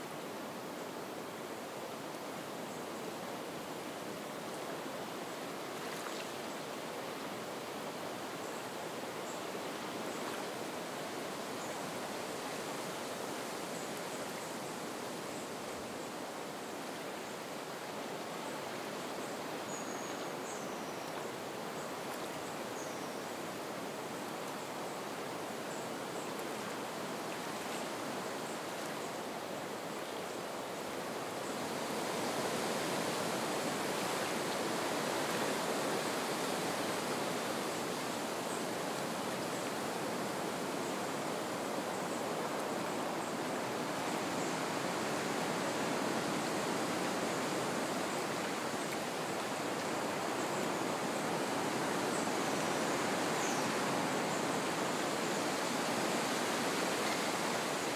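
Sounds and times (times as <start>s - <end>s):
wind through reeds: 0.0s - 57.9s.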